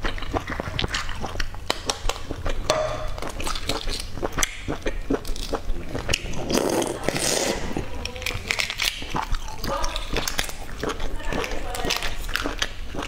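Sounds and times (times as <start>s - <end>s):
eggshell cracking: 0.0s - 6.3s, 6.9s - 13.0s.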